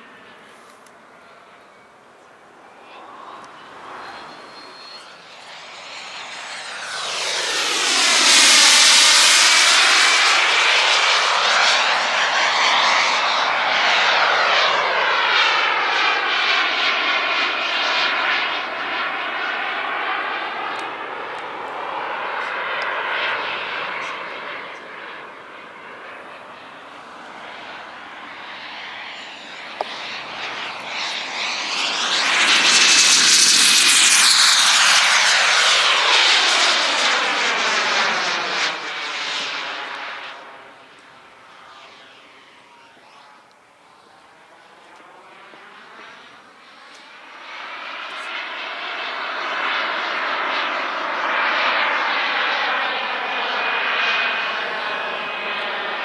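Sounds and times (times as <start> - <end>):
model jet turbine whine and hiss: 0.0 - 56.0.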